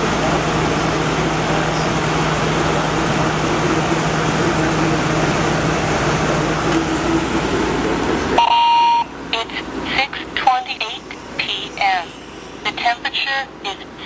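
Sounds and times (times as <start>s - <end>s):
air conditioner rushing air: 0.0s - 14.0s
compressor low hum: 0.0s - 14.0s.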